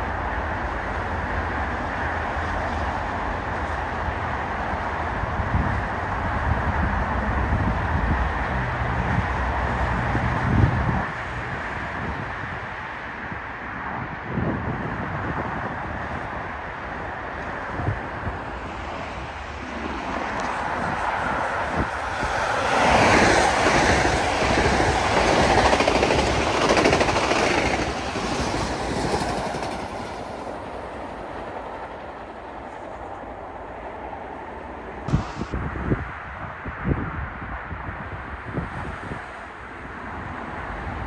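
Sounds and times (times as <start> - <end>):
train wheels rumbling on rails: 0.0 - 36.5.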